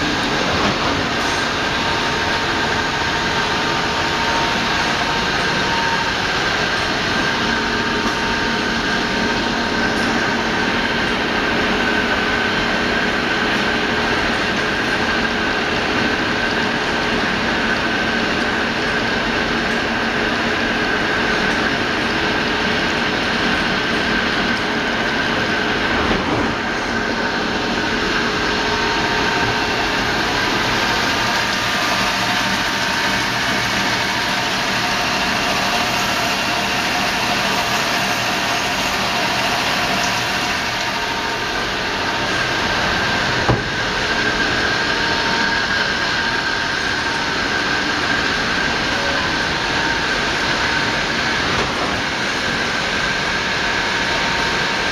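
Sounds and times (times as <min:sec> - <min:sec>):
lathe machining hiss and hum: 0:00.0 - 0:54.9.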